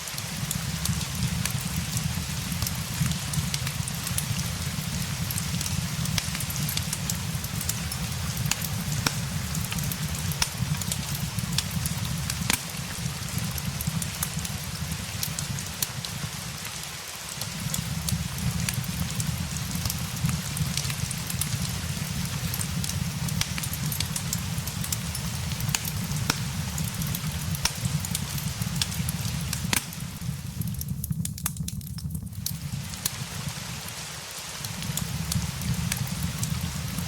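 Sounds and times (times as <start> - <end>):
fireplace crackling: 0.0 - 37.0
steady rain: 0.0 - 37.0.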